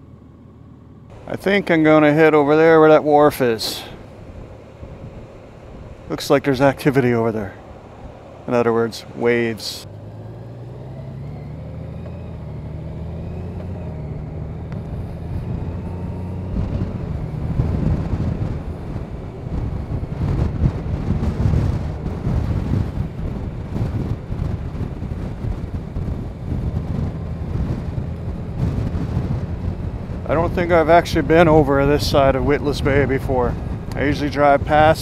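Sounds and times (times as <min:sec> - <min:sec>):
motorcycle engine hum: 0:00.0 - 0:35.0
wind buffeting microphone: 0:01.1 - 0:35.0.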